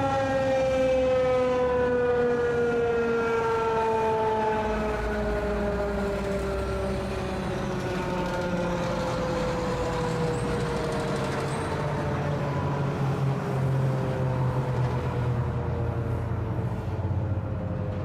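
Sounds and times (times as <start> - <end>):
low rumble of road traffic: 0.0 - 18.0
warning siren wail falling: 0.0 - 18.0.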